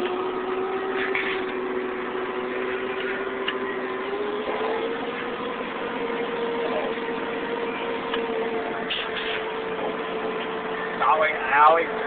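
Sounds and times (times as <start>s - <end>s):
high hum: 0.0s - 12.0s
snowcat engine drone: 0.0s - 12.0s.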